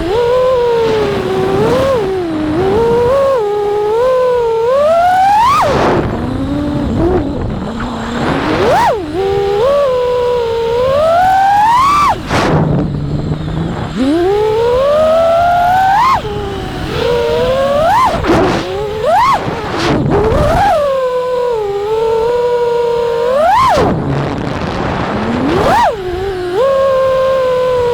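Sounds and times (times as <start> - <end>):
drone motors whining: 0.0 - 27.9
wind noise on microphone: 0.0 - 27.9.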